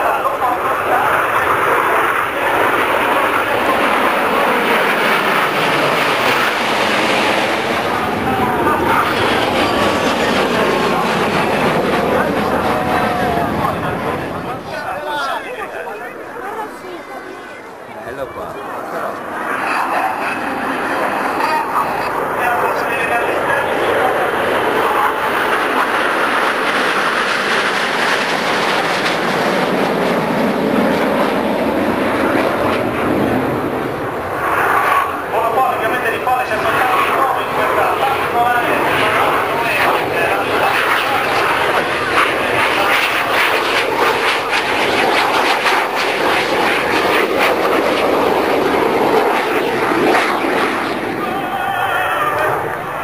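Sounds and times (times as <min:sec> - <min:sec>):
jet aircraft roar overhead: 0:00.0 - 0:53.0.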